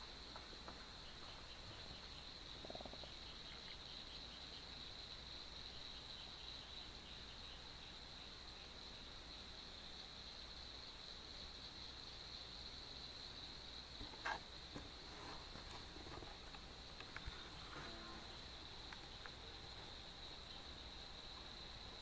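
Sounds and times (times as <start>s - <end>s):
night insects chorus: 0.0s - 22.0s.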